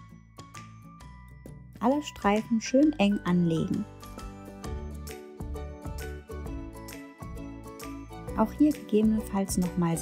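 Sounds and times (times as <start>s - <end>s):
light background music with beat: 0.0s - 10.0s.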